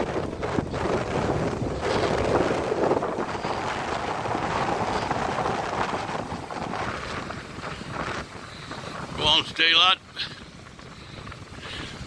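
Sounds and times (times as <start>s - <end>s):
surf washing on beach: 0.0s - 12.0s
wind noise on microphone: 0.0s - 12.0s.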